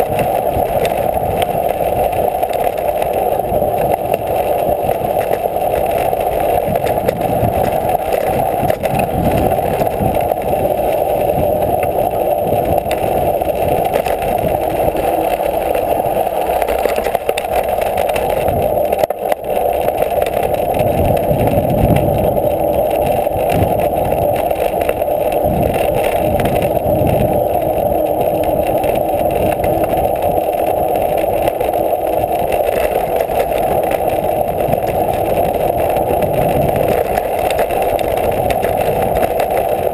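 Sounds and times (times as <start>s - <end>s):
bike tyres rumbling over stones: 0.0s - 39.9s
wind rush over microphone: 0.0s - 39.9s.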